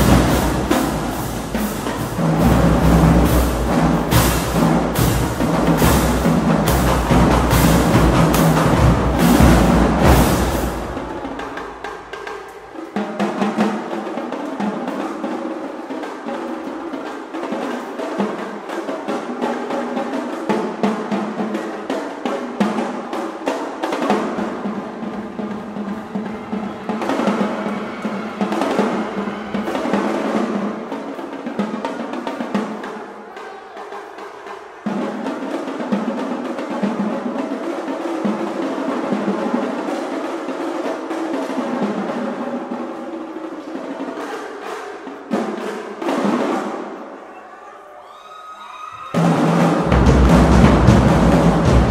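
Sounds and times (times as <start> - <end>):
drumline playing tenor drums: 0.0 - 47.2, 49.1 - 51.9.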